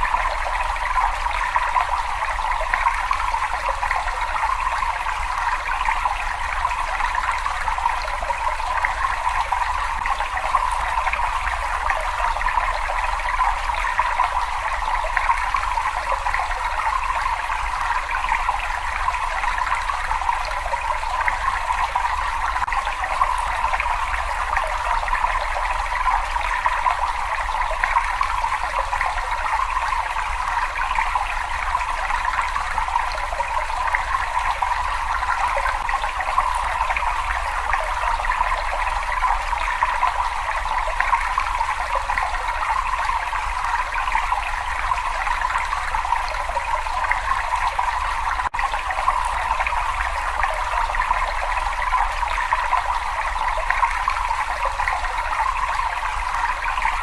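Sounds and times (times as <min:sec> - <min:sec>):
water flowing in a cave: 0:00.0 - 0:57.0.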